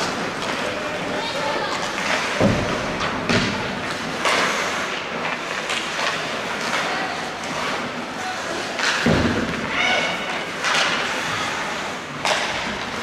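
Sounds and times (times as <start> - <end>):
skates scraping on ice: 0.0 - 13.0.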